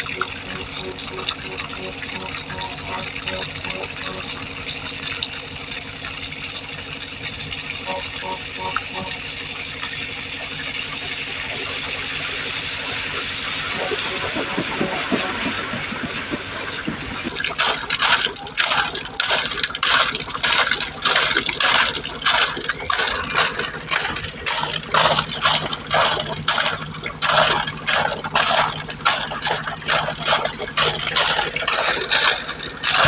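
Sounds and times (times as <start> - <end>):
air compressor hum: 0.0 - 4.9, 6.7 - 33.0
water gushing from a pipe: 0.0 - 33.0.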